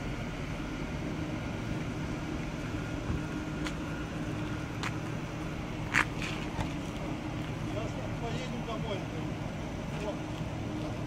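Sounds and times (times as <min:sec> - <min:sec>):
train equipment hum: 0:00.0 - 0:11.0.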